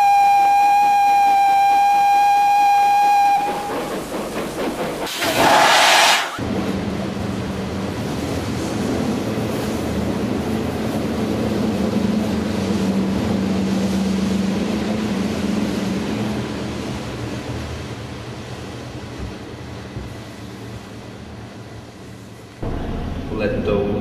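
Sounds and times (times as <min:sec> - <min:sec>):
steam train rumble: 0:01.4 - 0:24.0.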